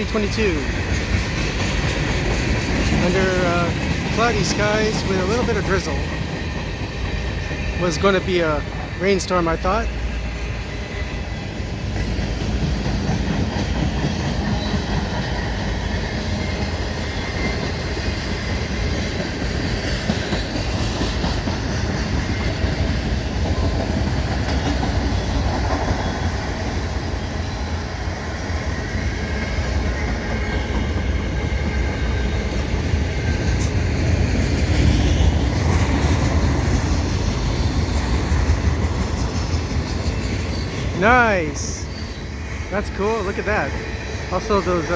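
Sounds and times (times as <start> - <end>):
freight train rumble: 0.0 - 44.9
wheels clattering on rails: 0.0 - 44.9.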